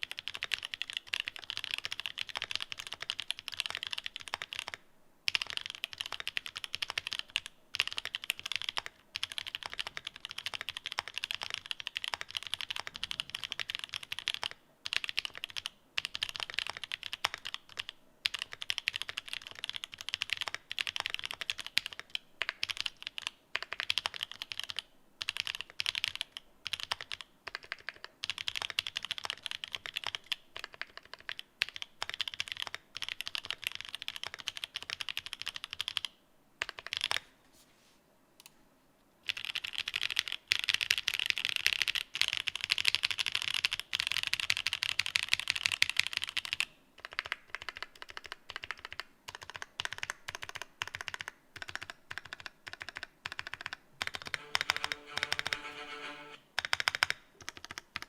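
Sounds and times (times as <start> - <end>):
typing on mechanical keyboard: 0.0 - 37.2, 39.2 - 58.0.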